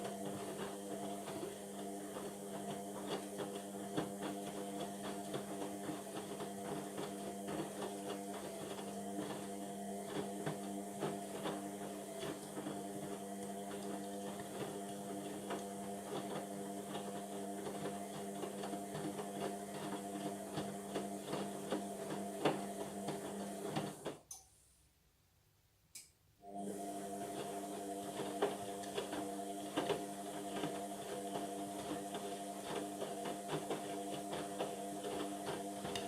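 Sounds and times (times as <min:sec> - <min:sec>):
washing machine motor hum: 0:00.0 - 0:24.2, 0:26.4 - 0:36.0.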